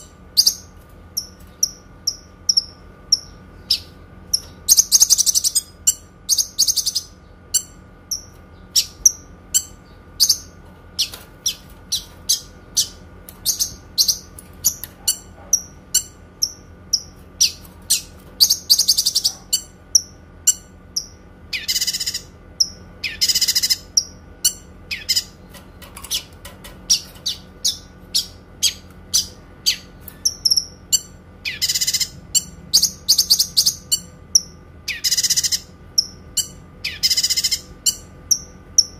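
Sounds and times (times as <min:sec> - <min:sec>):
bird trilled bursts: 0:00.0 - 0:25.4, 0:26.9 - 0:38.9.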